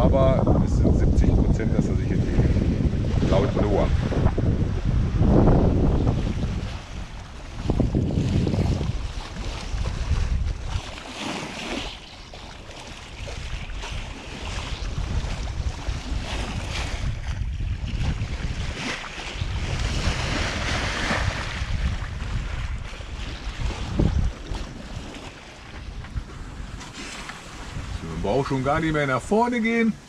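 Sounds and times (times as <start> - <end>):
water splashing along boat bow: 0.0 - 30.0
wind gusting across microphone: 0.0 - 30.0.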